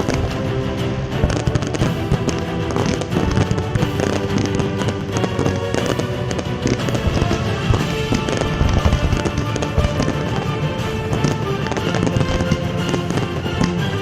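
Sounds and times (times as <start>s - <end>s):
fireworks bursting and crackling: 0.0s - 14.0s
music playing: 0.0s - 14.0s.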